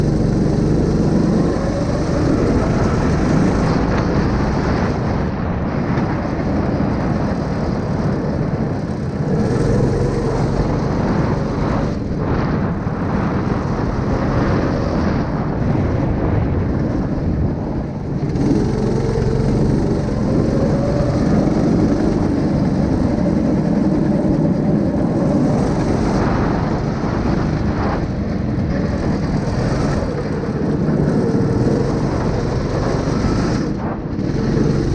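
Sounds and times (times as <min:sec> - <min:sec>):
engine running loudly: 0:00.0 - 0:34.9.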